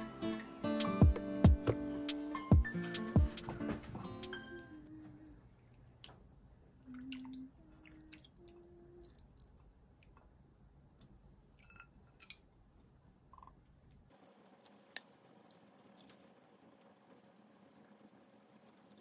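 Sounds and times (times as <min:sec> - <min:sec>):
low background hum: 0:02.7 - 0:19.0.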